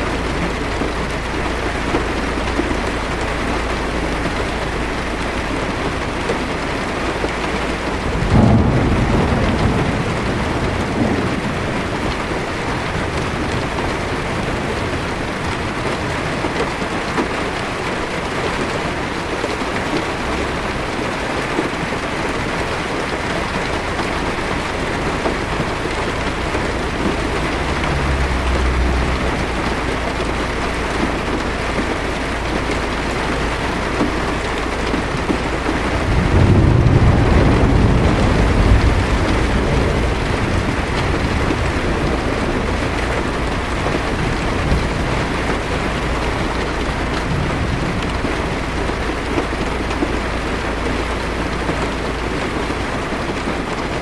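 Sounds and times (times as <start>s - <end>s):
thunder clap: 0.0s - 17.4s, 18.0s - 54.0s
heavy rain on car roof: 0.0s - 54.0s.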